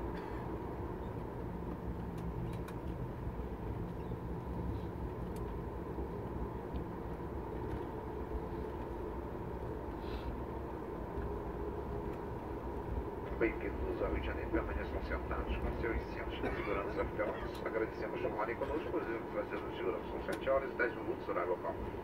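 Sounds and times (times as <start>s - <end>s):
jet engines idling whine: 0.0s - 22.0s.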